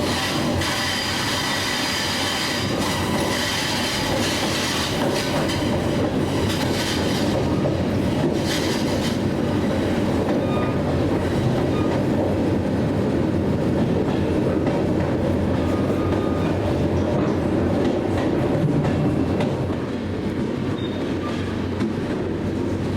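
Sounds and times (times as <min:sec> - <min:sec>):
train rumbling on rails: 0:00.0 - 0:22.9.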